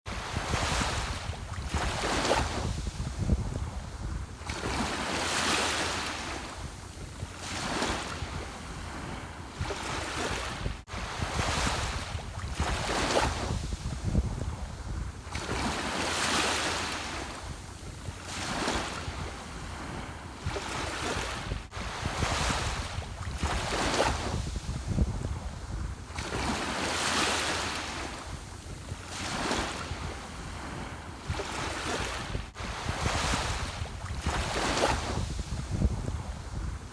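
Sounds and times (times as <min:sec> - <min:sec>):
ocean waves breaking: 0:00.1 - 0:36.9.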